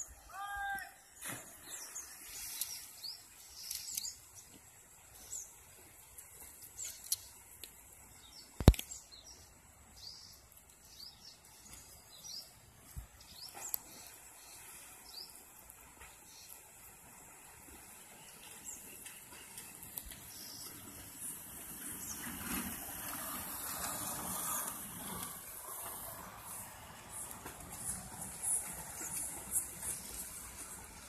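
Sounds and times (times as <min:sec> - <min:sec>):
small birds chirping: 0:00.0 - 0:31.0
faint steady hiss: 0:01.0 - 0:31.0.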